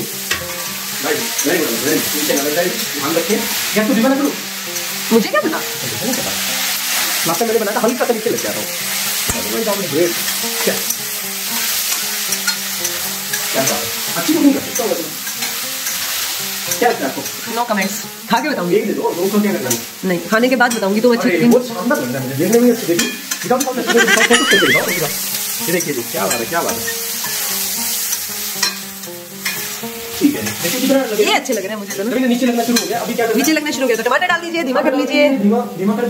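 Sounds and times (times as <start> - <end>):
vegetables sizzling in hot oil: 0.0 - 36.0.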